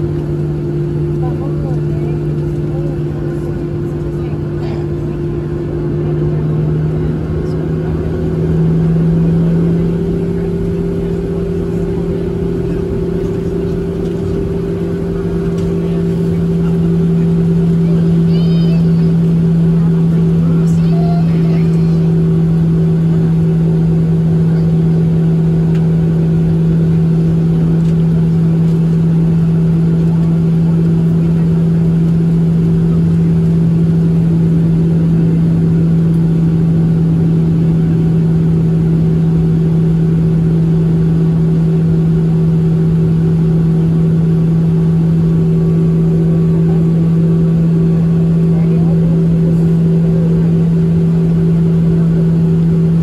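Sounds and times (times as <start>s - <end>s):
airplane cabin engine drone: 0.0s - 53.0s.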